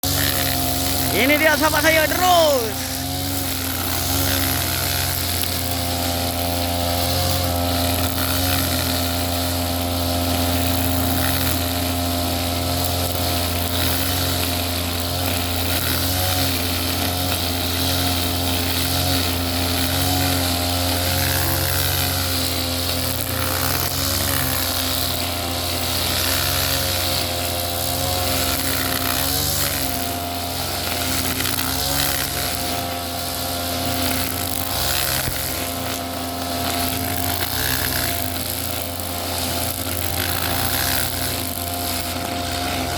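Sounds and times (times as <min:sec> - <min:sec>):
small petrol engine running: 0:00.0 - 0:42.9.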